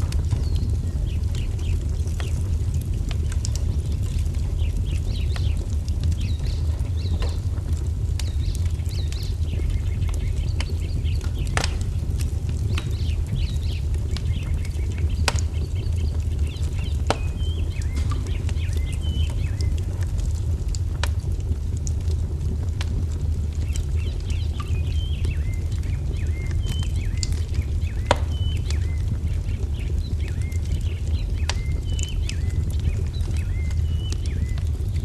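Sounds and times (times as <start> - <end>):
low rumble: 0.0 - 35.0
songbirds chirping: 0.0 - 35.0
wood fire crackling and popping: 0.0 - 35.0.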